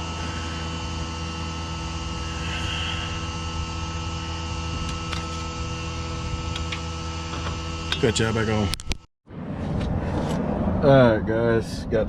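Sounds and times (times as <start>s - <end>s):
machine hum: 0.0s - 10.8s.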